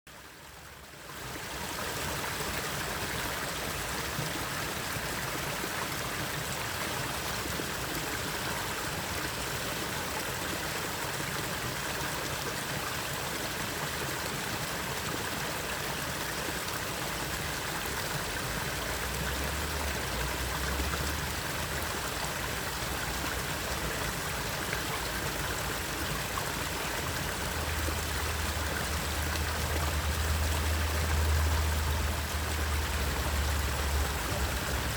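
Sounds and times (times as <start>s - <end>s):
stream water rushing: 0.2s - 34.9s.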